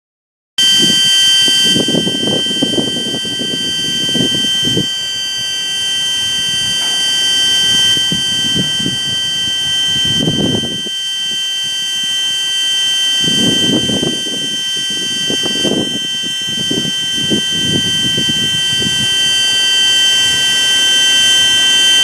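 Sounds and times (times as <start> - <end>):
wind rumble on microphone: 0.6 - 12.2, 12.9 - 22.0
shrill electronic whine: 0.6 - 22.0.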